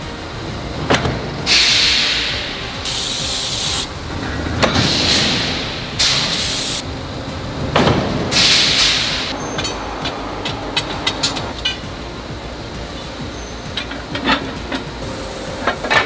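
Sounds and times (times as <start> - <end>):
forging hammer blows: 0.0 - 16.0
hissing bursts: 0.0 - 16.0.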